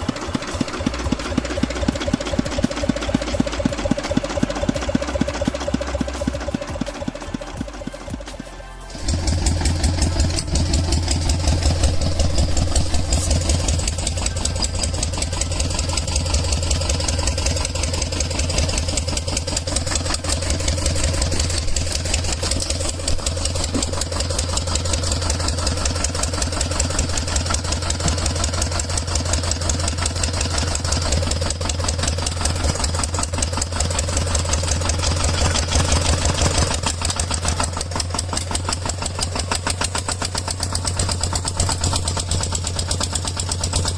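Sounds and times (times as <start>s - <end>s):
engine chugging: 0.0s - 43.9s.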